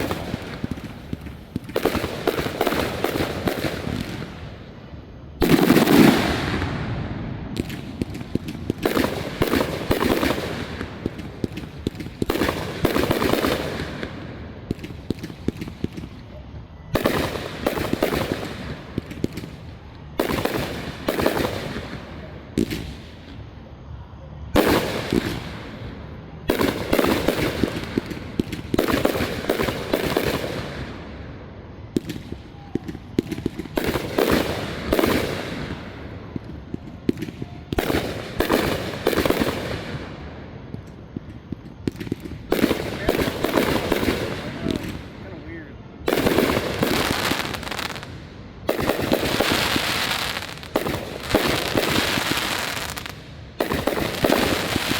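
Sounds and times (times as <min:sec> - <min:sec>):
fireworks bursting and crackling: 0:00.0 - 0:23.9, 0:24.5 - 0:54.9.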